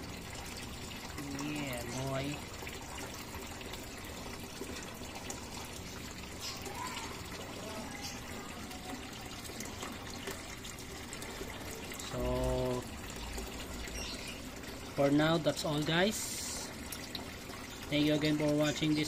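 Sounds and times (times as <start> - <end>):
water trickling in aquarium: 0.0 - 19.0.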